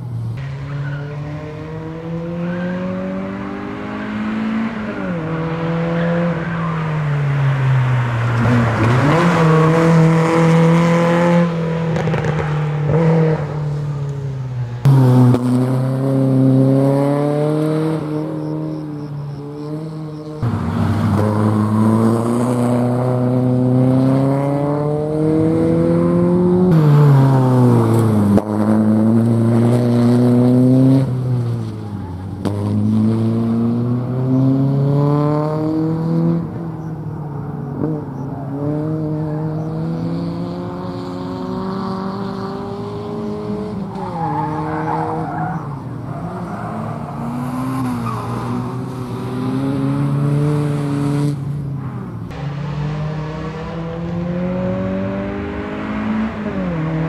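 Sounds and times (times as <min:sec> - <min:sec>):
race car engine revving: 0:00.4 - 0:07.1, 0:07.8 - 0:13.8, 0:14.6 - 0:36.7, 0:37.7 - 0:51.6, 0:52.3 - 0:57.0.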